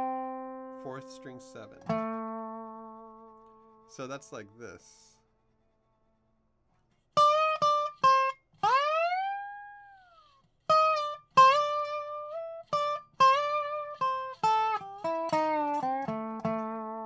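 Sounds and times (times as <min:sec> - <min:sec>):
slide resonator guitar: 0:00.0 - 0:06.0, 0:06.8 - 0:17.0.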